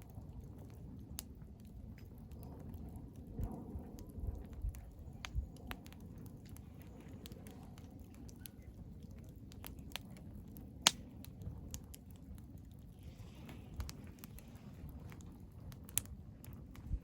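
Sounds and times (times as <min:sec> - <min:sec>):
wood fire crackling: 0:00.0 - 0:17.0
low steady rumble: 0:00.1 - 0:17.0.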